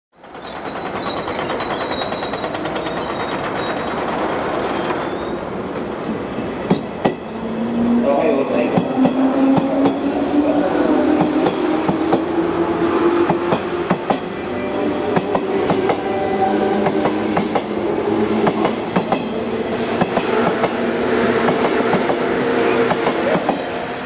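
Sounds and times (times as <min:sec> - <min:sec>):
train wheels clicking on rail joints: 0:00.2 - 0:07.6, 0:08.7 - 0:20.8, 0:21.4 - 0:23.8.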